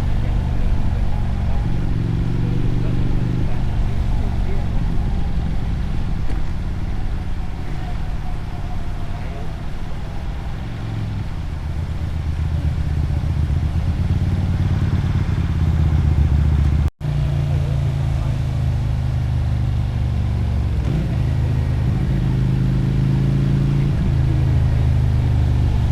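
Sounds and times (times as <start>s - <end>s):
motorcycle engine and exhaust: 0.0s - 25.9s
wind and road noise: 0.0s - 25.9s.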